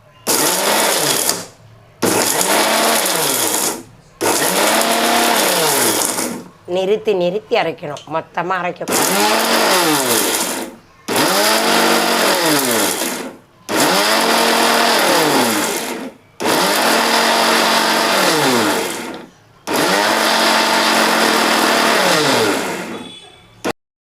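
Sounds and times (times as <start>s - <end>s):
mixer grinder motor whine: 0.3s - 6.5s, 8.9s - 23.1s.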